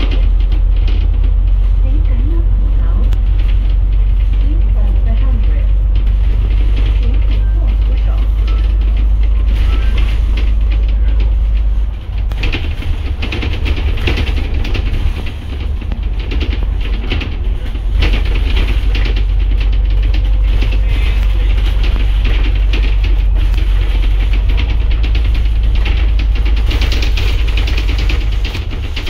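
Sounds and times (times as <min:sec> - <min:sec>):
bus body rattling: 0:00.0 - 0:29.0
bus low rumble: 0:00.0 - 0:29.0.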